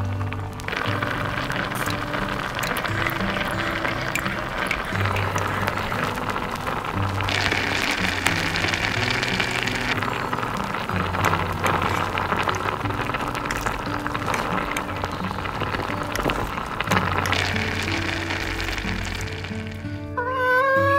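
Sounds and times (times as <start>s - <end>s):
food sizzling in a pan: 0.0s - 20.0s
music with held low notes: 0.0s - 20.9s.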